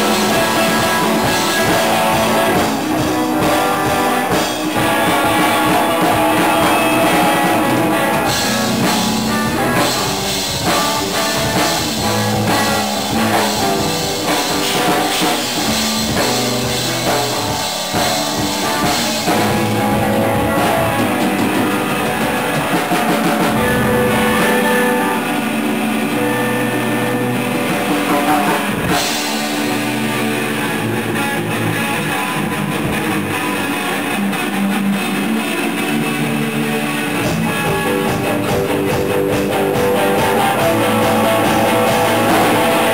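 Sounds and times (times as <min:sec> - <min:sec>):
drum kit: 0:00.0 - 0:42.9
electric guitars: 0:00.0 - 0:42.9.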